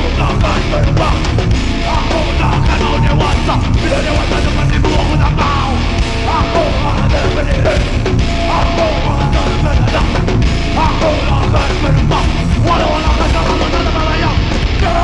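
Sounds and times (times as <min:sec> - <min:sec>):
heavy rock band playing live: 0:00.0 - 0:15.0.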